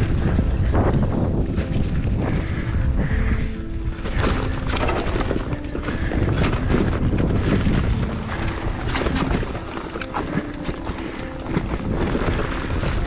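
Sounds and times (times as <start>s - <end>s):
faint music: 0.0s - 13.0s
mountain bike rattling: 0.0s - 13.0s
wind buffeting microphone: 0.0s - 13.0s.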